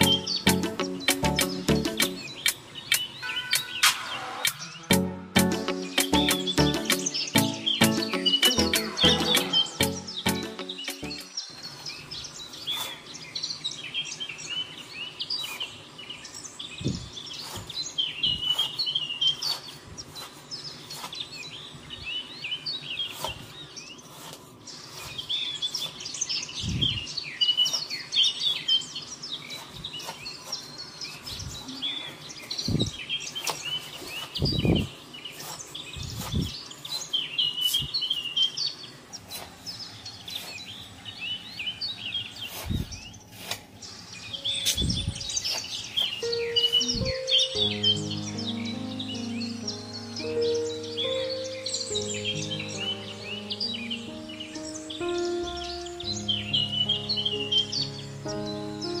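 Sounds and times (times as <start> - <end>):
birds chirping chorus: 0.0 - 3.9, 4.6 - 59.0.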